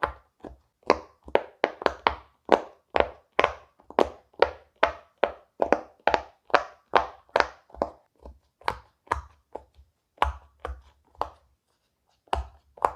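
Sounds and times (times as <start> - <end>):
pop-it toy bubbles popping: 0.0 - 10.8.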